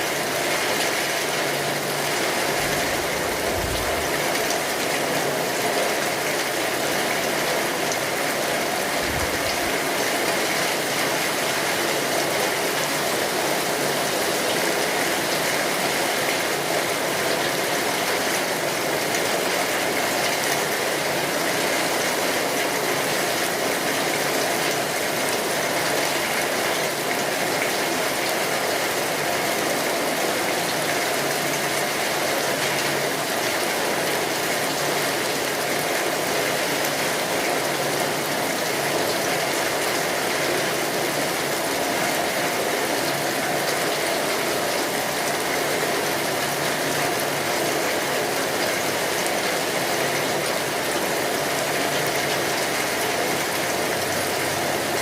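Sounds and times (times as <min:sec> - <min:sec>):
rain on a tin roof: 0:00.0 - 0:55.0.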